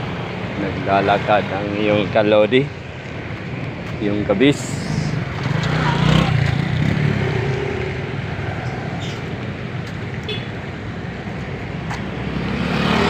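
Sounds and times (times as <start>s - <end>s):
car and bus engines running: 0.0s - 13.0s.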